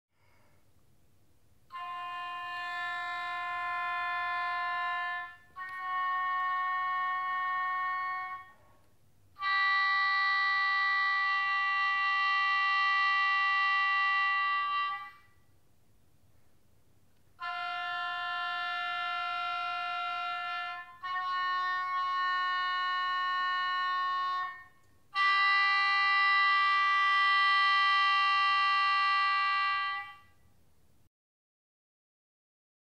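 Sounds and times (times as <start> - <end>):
oboe long held notes: 1.7 - 15.5, 17.4 - 30.4.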